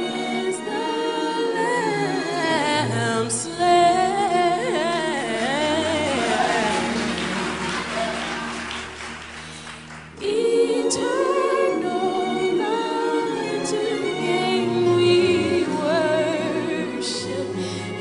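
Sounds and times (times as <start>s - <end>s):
choir singing: 0.0s - 9.4s, 10.1s - 18.0s.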